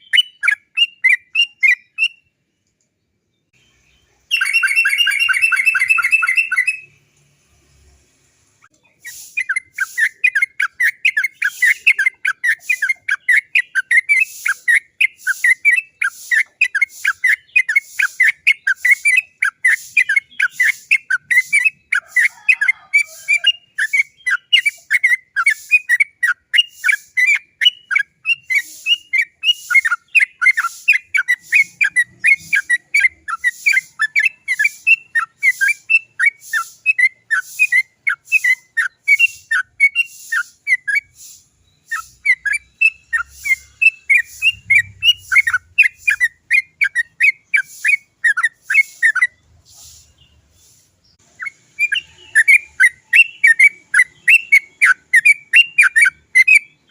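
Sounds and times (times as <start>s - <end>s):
bird chattering song: 0.0s - 2.7s, 3.3s - 7.0s, 8.7s - 56.9s.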